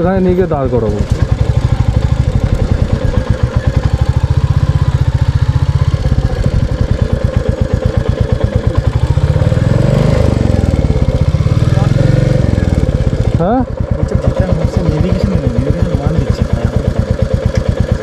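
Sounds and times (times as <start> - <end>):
motorcycle engine thumping: 0.0 - 18.0.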